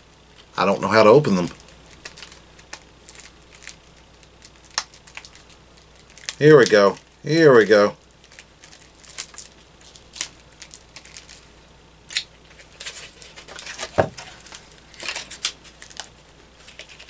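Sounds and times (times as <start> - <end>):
packaging crinkling and tearing: 0.7 - 7.2, 8.0 - 11.5, 12.1 - 17.0.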